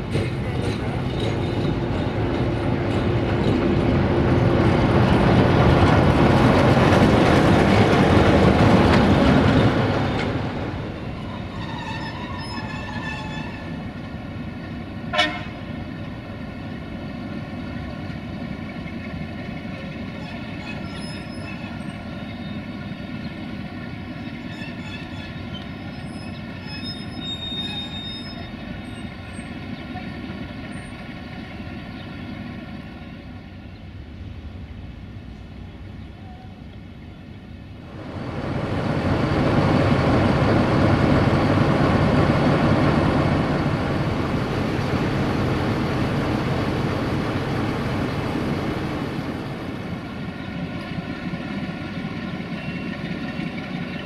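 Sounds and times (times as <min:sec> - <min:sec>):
diesel locomotive passing: 0:00.0 - 0:54.0.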